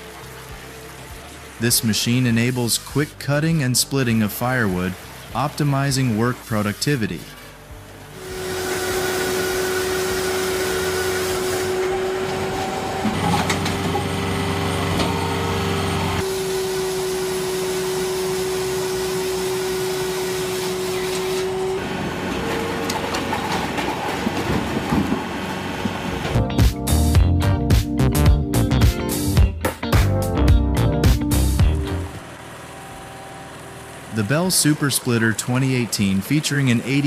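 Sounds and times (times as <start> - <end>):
firewood processor machinery humming: 0.0 - 26.4, 31.5 - 37.0.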